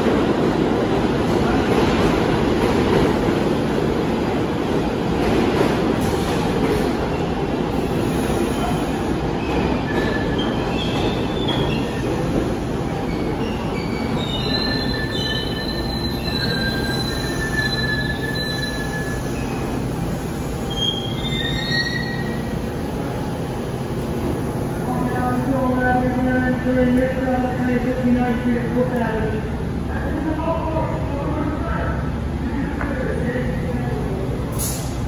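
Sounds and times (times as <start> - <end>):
subway train rumbling past: 0.0 - 35.0.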